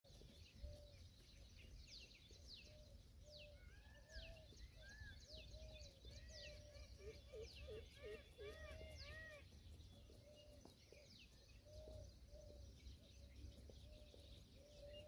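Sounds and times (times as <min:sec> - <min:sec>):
birds whistling: 0:00.6 - 0:15.0.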